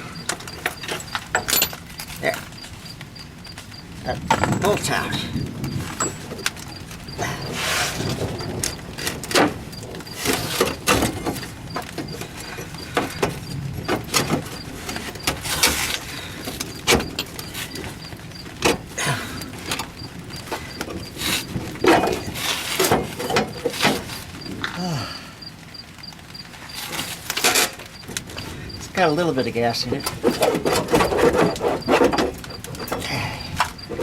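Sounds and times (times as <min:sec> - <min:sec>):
metal knocks clunks and scrapes: 0:00.0 - 0:24.6, 0:26.6 - 0:34.0.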